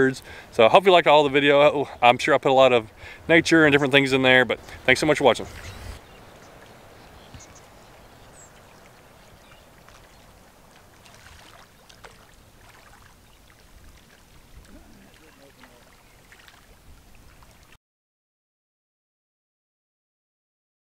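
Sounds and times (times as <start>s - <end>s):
faint wind: 0.0s - 17.8s
water lapping: 0.0s - 17.8s.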